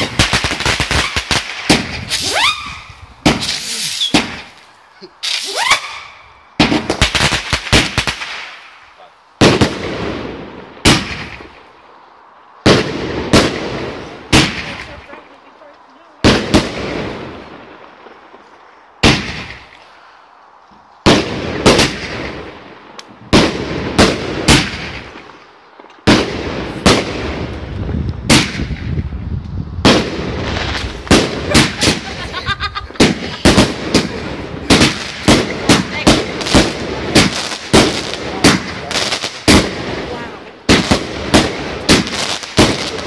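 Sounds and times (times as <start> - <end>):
fireworks bangs: 0.0 - 11.8, 12.6 - 19.8, 20.8 - 43.0.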